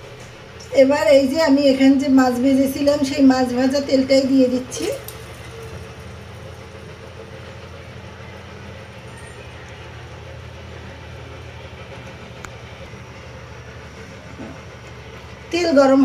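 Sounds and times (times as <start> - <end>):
gas burner rumble and hiss: 0.0 - 16.0.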